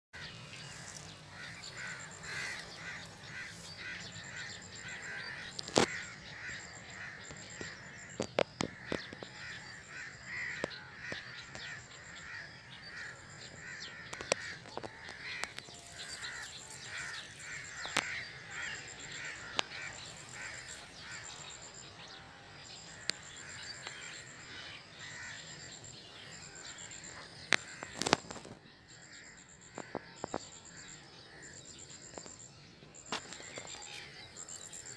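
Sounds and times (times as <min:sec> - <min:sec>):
birds calling: 0:00.2 - 0:34.9.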